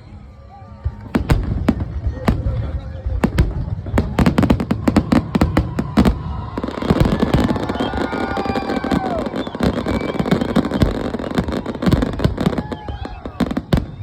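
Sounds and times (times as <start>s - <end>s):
fireworks bangs: 0.9s - 14.0s
fireworks crackling: 0.9s - 14.0s.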